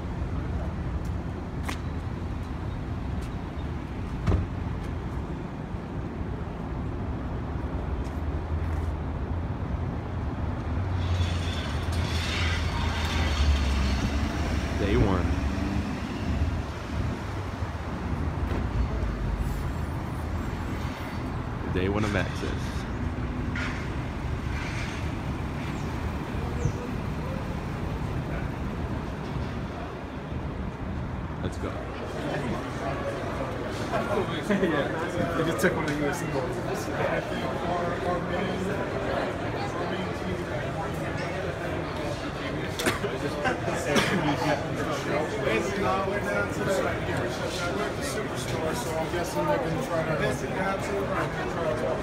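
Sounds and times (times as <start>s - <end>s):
traffic rumble: 0.0s - 52.0s.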